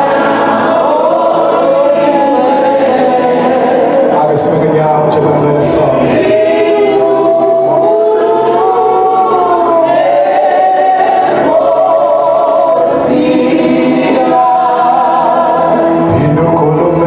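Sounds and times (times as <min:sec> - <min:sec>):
group singing gospel in harmony: 0:00.0 - 0:17.0.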